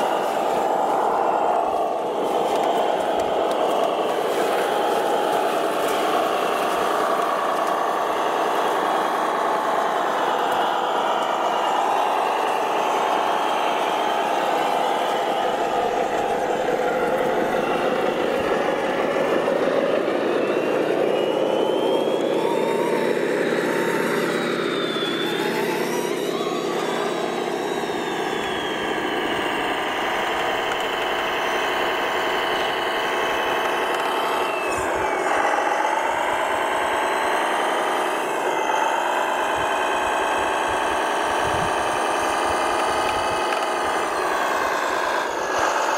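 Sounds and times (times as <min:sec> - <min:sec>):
model truck motors whining: 0:00.0 - 0:45.9.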